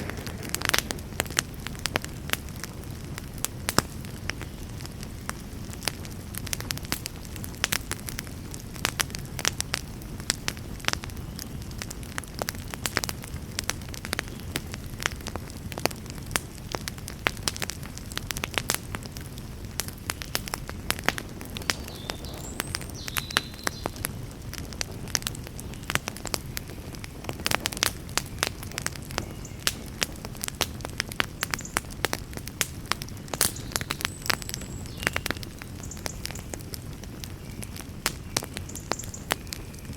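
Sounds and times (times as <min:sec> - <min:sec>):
fire flames rumbling: 0:00.0 - 0:39.9
wood fire crackling and popping: 0:00.0 - 0:39.9.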